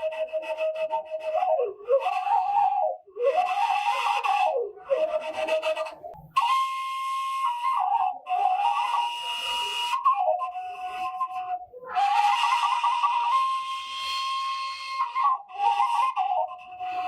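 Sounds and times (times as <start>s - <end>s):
bamboo flute melody: 0.0s - 17.0s.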